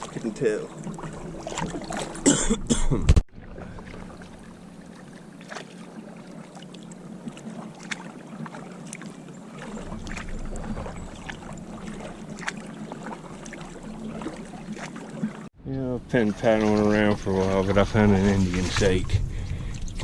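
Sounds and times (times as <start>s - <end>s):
water swishing: 0.0s - 2.7s, 3.3s - 15.5s, 16.1s - 20.0s
paddle splashes and knocks: 0.0s - 15.5s, 16.3s - 20.0s.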